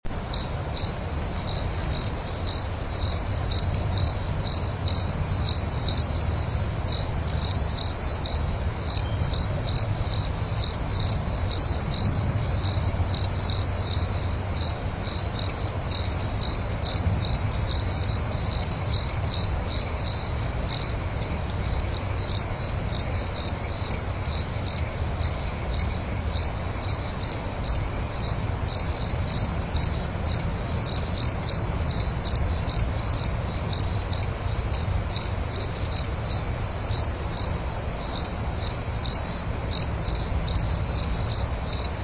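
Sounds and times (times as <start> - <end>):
cricket chirping: 0.1 - 42.0
steady low rumble: 0.1 - 42.0.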